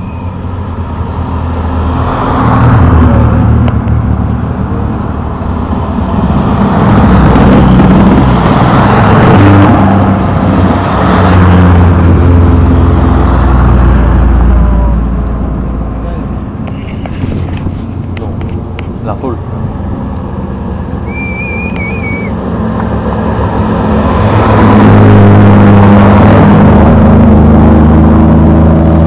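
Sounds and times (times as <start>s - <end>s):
cars passing on mountain road: 0.0s - 29.0s.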